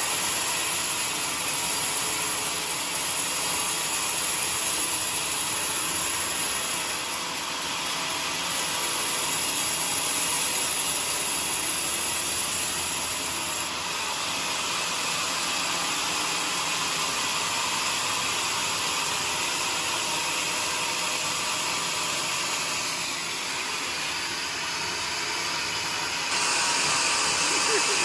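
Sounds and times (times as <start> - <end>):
sawmill saw cutting log: 0.0 - 28.0.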